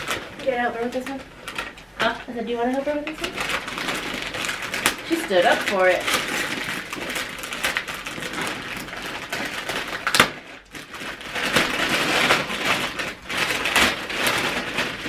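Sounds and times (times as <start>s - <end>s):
sharp paper crackle: 0.0s - 15.0s
wrapping paper rustling and tearing: 0.0s - 15.0s.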